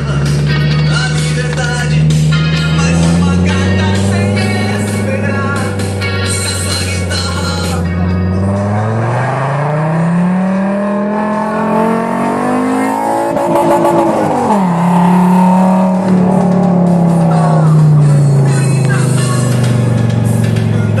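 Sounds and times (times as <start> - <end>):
car engine accelerating: 0.0 - 21.0
music: 0.0 - 21.0.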